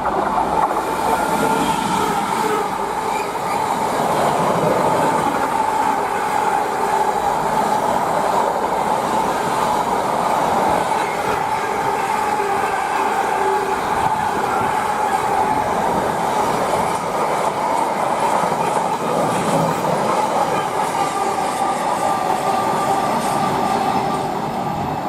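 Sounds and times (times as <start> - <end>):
freight train wheels on rail: 0.0 - 25.0.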